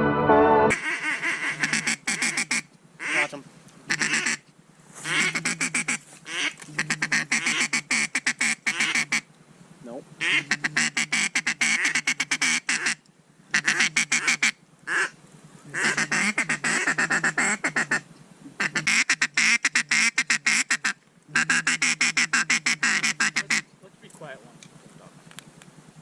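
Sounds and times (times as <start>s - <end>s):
duck quacking: 0.7s - 4.4s, 5.0s - 9.3s, 10.2s - 23.7s.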